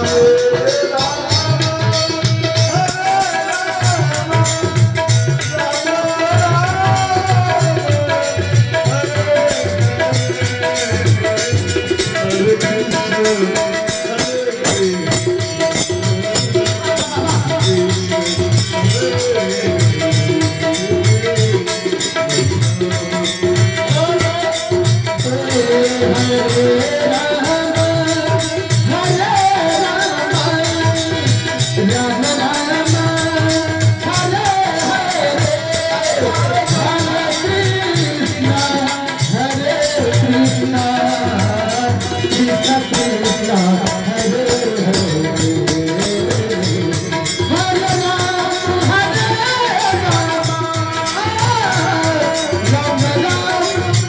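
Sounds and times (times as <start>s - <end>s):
jingling percussion: 0.0s - 54.0s
steady drum beat: 0.0s - 54.0s.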